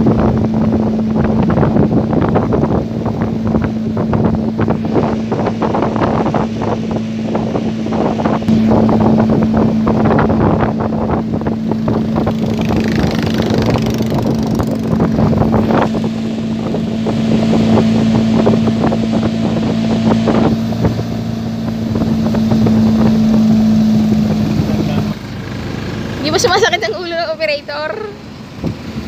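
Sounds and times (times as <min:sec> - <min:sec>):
wind buffeting microphone: 0:00.0 - 0:25.4, 0:26.2 - 0:29.0
motorboat engine droning: 0:00.0 - 0:29.0.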